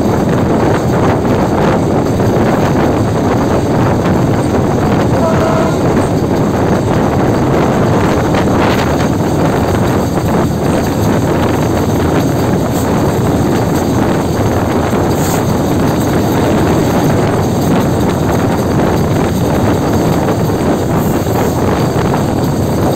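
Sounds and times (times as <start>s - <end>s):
diesel locomotive moving: 0.0s - 22.9s
wind buffeting microphone: 0.0s - 22.9s.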